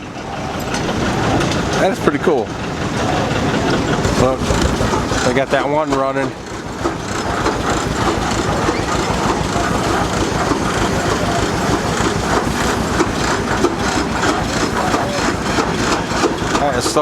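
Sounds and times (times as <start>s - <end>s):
steam traction engine running: 0.0s - 17.0s.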